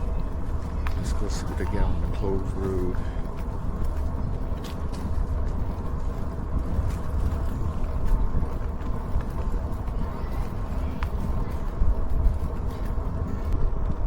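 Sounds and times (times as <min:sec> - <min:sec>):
road noise rumble: 0:00.0 - 0:14.0
wind buffeting microphone: 0:00.0 - 0:14.0.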